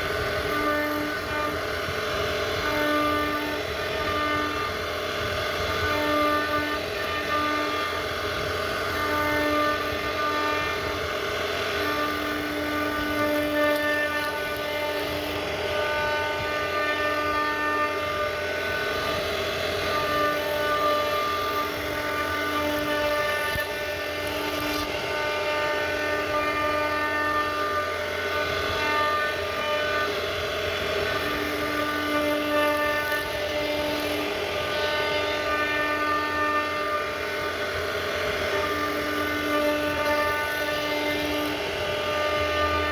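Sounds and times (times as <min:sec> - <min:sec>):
bit cutting wood: 0:00.0 - 0:42.9
router spindle whine: 0:00.0 - 0:42.9.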